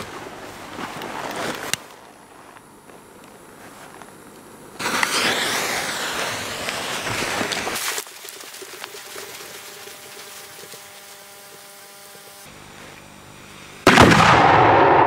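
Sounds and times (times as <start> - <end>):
fuse sputtering hiss: 0.0 - 14.0.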